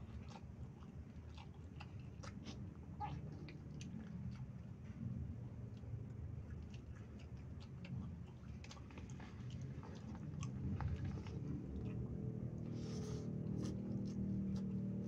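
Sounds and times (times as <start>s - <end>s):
wet chewing and mouth clicks: 0.0s - 5.0s, 5.7s - 15.0s
steady low hum: 0.0s - 15.0s.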